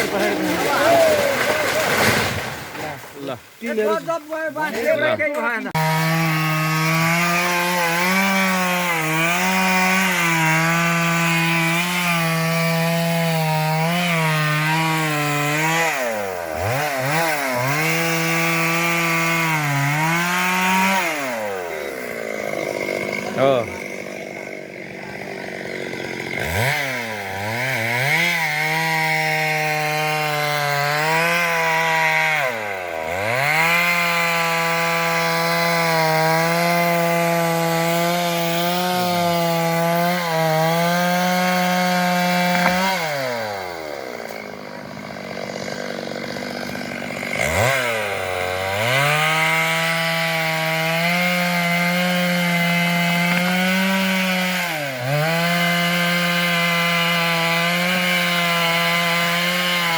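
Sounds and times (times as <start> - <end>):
chainsaw cutting tree trunk: 0.0 - 3.0, 4.7 - 59.9.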